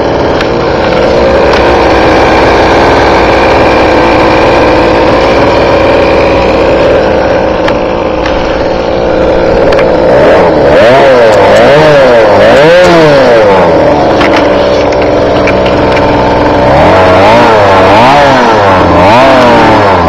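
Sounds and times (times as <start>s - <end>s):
small two-stroke engine idling and revving: 0.0s - 20.0s.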